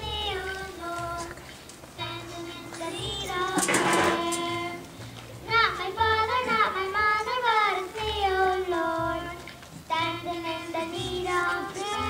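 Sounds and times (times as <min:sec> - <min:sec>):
children singing: 0:00.0 - 0:01.4, 0:02.0 - 0:04.9, 0:05.5 - 0:12.0.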